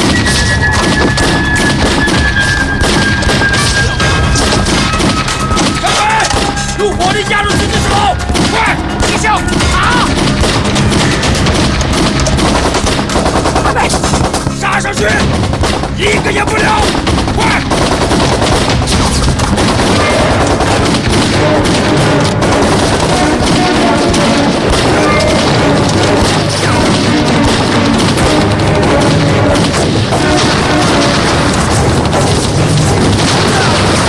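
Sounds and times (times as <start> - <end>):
dramatic background music: 0.0 - 34.0
rapid machine-gun fire: 0.0 - 34.0.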